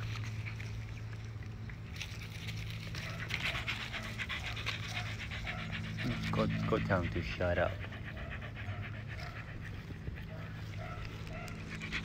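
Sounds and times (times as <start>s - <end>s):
puppies panting: 0.0s - 12.0s
steady low hum: 0.0s - 12.0s.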